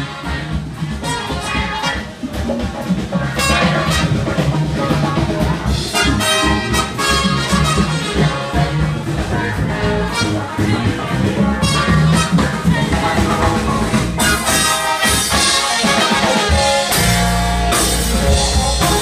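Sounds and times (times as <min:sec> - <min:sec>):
brass horns sustained notes: 0:00.0 - 0:19.0
live jazz band: 0:00.0 - 0:19.0.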